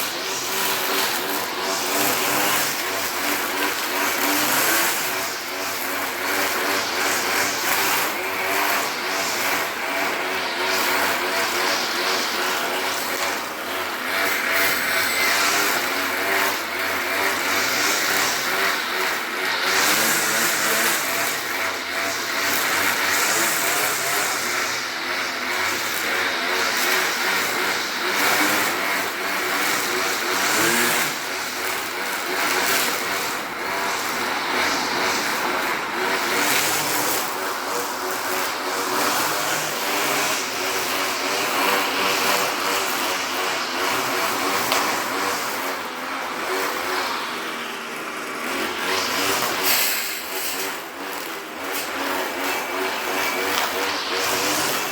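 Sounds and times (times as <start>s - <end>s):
grass trimmer cutting grass: 0.0s - 54.9s.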